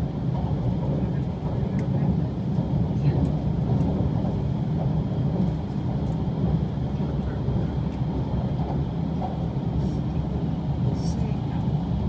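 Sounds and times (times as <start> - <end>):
train rumble from inside: 0.0 - 12.0.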